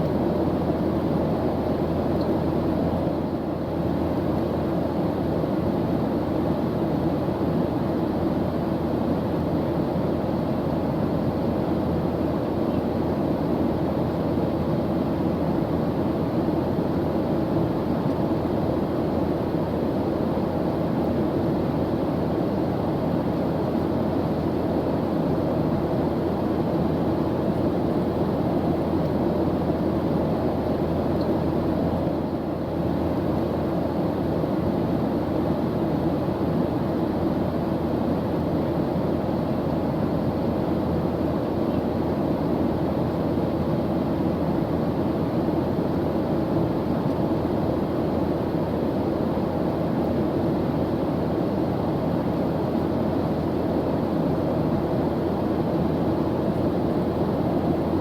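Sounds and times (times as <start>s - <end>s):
airplane engine drone: 0.0s - 58.0s.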